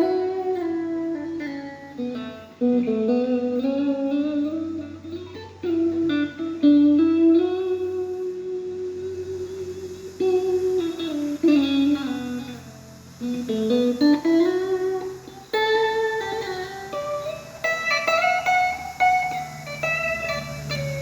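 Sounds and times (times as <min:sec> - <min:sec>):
electric guitar melody: 0:00.0 - 0:21.0.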